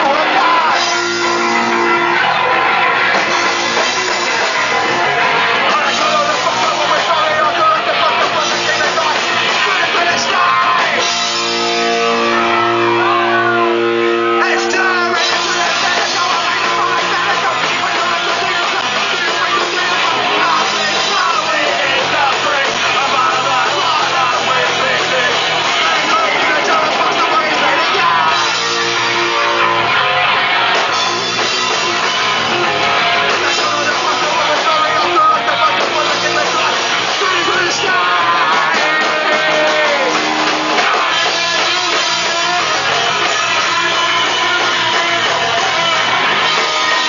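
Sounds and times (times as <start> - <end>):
punk rock band playing: 0.0 - 47.0
shouted vocals: 0.0 - 47.0.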